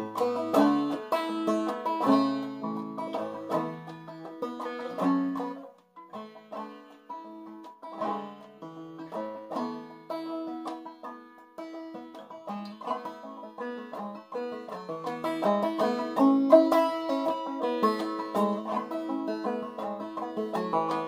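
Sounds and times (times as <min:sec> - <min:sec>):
banjo plucked notes: 0:00.0 - 0:21.0.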